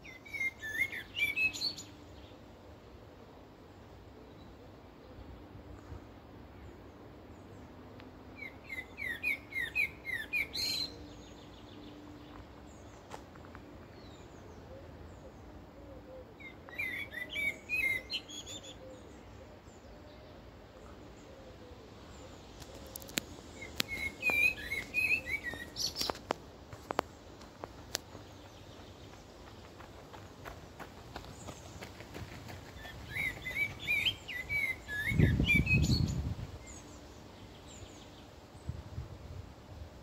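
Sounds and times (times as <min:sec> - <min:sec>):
birds chirping in trees: 0:00.0 - 0:40.0.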